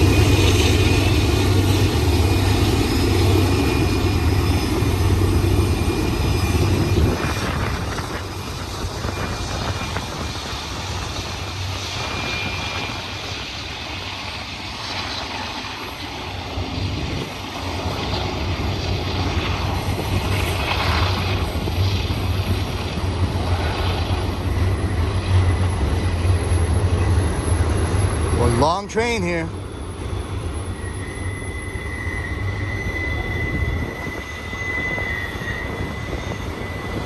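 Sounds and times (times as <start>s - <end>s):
wind buffeting microphone: 0.0s - 28.6s, 29.5s - 37.0s
freight train rumbling past: 0.0s - 37.0s.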